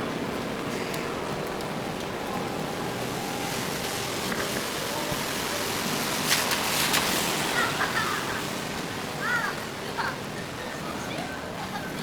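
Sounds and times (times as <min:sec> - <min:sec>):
rain on wet street: 0:00.0 - 0:12.0.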